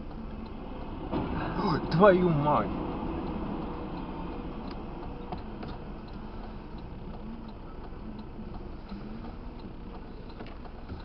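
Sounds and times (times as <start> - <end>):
engine and road hum: 0.0 - 11.0
turn signal ticking: 0.0 - 11.0.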